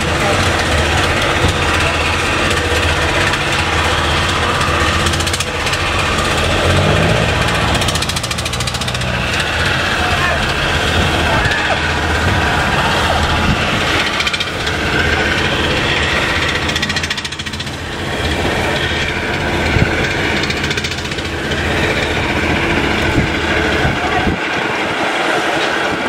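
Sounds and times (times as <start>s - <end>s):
boat diesel engine running: 0.0s - 26.0s.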